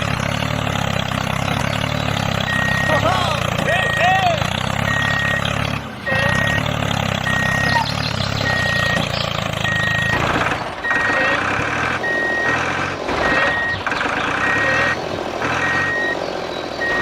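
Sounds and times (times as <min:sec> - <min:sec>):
engine low hum: 0:00.0 - 0:17.0
vehicle reversing alarm beeping: 0:00.0 - 0:17.0.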